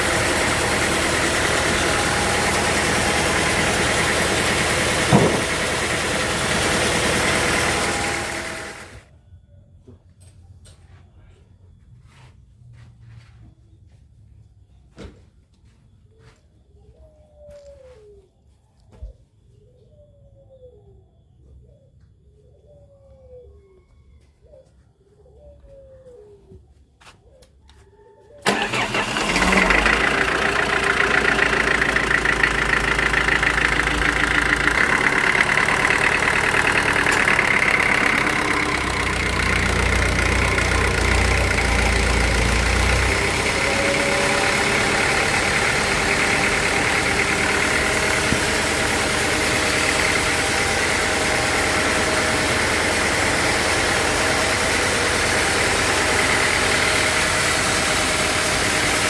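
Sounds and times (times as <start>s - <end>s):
engine low rumble: 0.0s - 17.9s, 28.4s - 59.0s.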